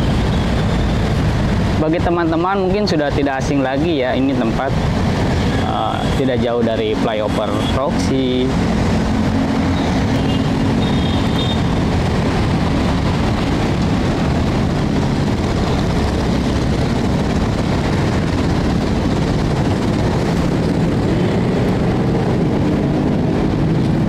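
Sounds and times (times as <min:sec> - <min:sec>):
rumble of road traffic: 0:00.0 - 0:24.0.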